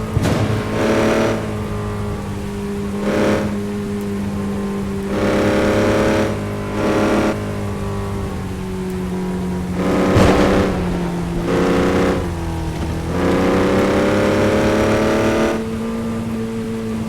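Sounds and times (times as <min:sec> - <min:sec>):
vehicle engine idling and revving: 0:00.0 - 0:17.0.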